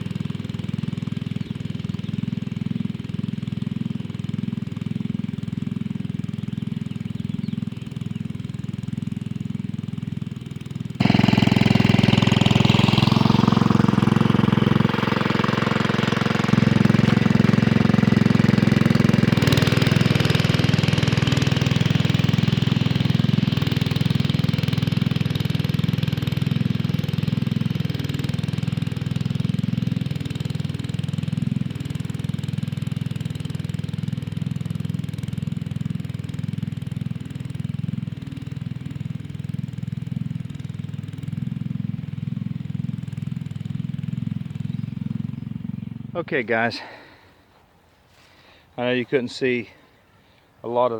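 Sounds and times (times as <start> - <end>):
tractor engine running under load: 0.0 - 49.8.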